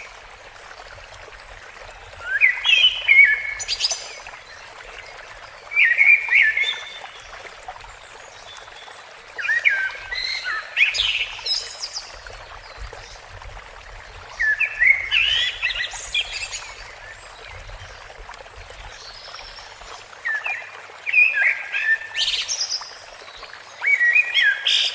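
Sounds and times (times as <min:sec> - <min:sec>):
running water hiss: 0:00.0 - 0:24.9.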